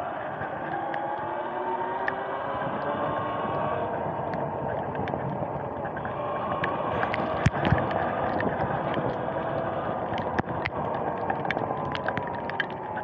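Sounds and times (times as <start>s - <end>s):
light ticks: 2.0s - 13.0s.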